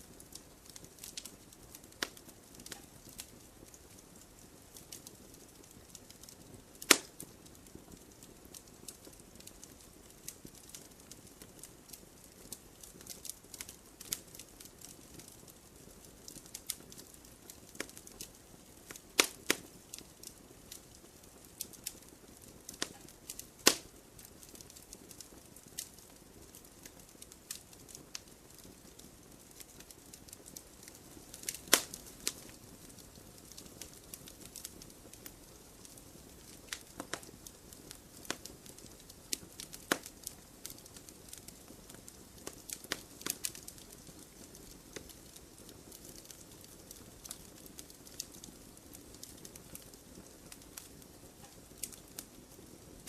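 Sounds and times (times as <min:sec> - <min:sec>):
campfire hiss: 0:00.0 - 0:53.0
fire crackles and pops: 0:00.0 - 0:53.0.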